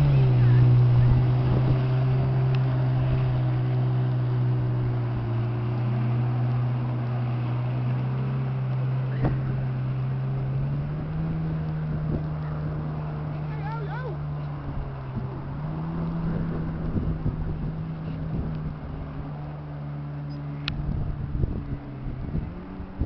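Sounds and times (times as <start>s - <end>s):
jet ski engine: 0.0s - 23.0s.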